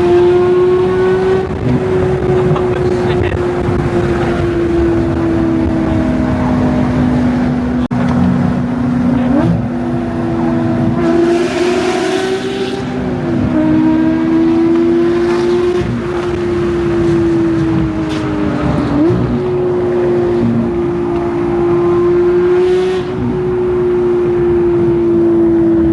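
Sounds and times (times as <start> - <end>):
car engine at high revs: 0.0 - 25.9.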